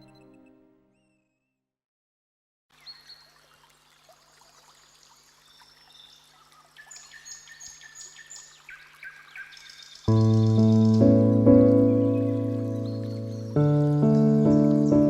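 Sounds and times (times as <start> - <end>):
songbird singing: 0.0 - 1.3, 2.8 - 4.1, 4.8 - 15.0
faint running stream: 2.7 - 15.0.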